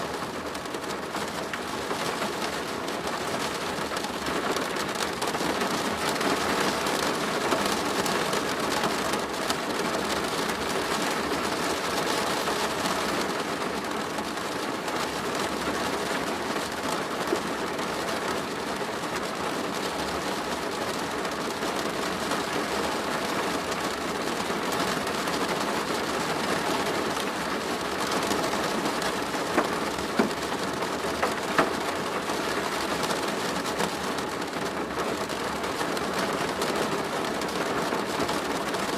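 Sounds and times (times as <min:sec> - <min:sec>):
rain drumming on a plastic roof: 0:00.0 - 0:38.9.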